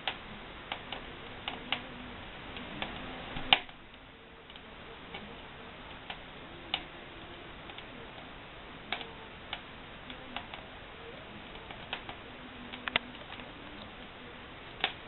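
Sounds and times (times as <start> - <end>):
fire hissing: 0.0 - 15.0
wood fire crackling and popping: 0.0 - 15.0.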